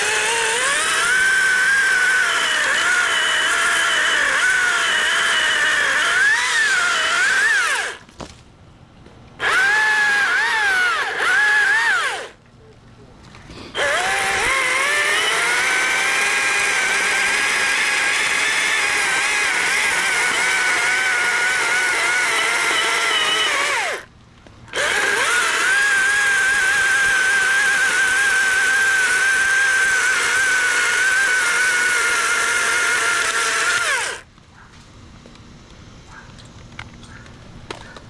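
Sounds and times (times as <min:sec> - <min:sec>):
chainsaw motor whine: 0:00.0 - 0:08.1, 0:09.4 - 0:12.4, 0:13.5 - 0:24.1, 0:24.7 - 0:34.3.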